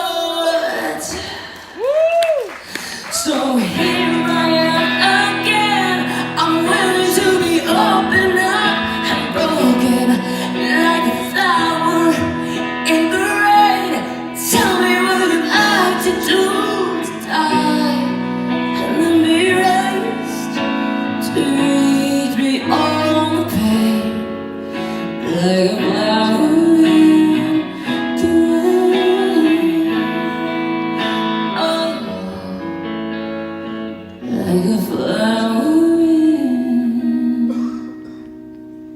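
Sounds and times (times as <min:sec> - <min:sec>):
woman singing: 0:00.0 - 0:38.4
guitar-led band: 0:00.0 - 0:38.9.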